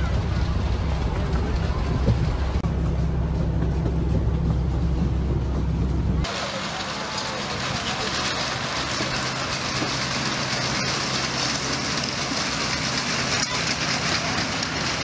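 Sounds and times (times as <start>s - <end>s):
miniature train wheels on rails: 0.0s - 15.0s.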